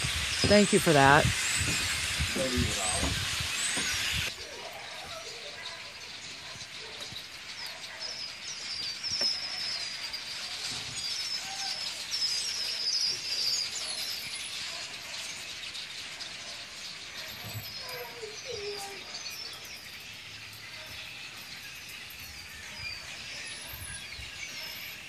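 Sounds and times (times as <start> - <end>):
flock of birds chirping: 0.0 - 25.0.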